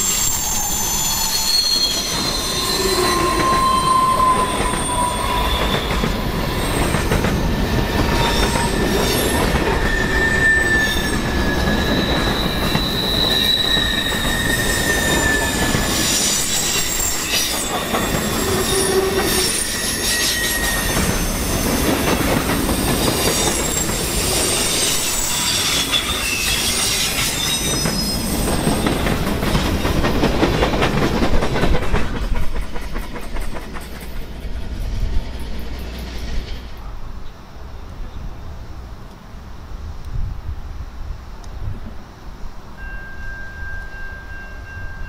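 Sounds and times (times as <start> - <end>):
train wheel flanges squealing: 0.0 - 36.9
train wheels rumbling and clacking: 0.0 - 37.2.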